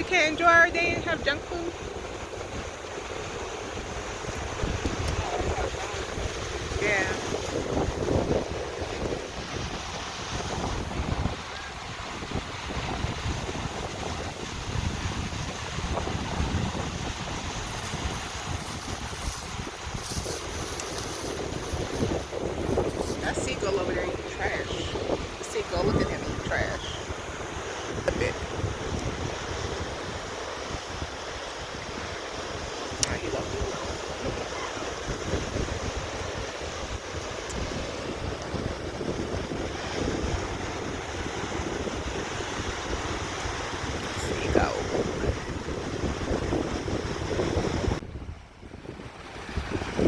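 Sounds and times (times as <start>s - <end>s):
ocean surf: 0.0s - 50.0s
wind buffeting microphone: 0.0s - 50.0s.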